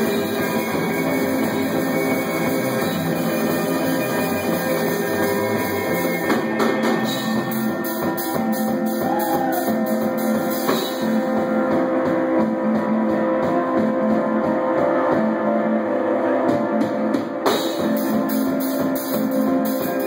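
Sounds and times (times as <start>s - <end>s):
drum kit: 0.0s - 20.0s
electric guitars: 0.0s - 20.0s.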